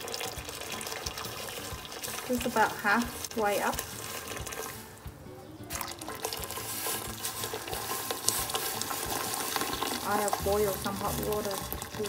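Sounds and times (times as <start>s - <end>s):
water pouring into pot: 0.0s - 5.0s, 5.7s - 12.0s.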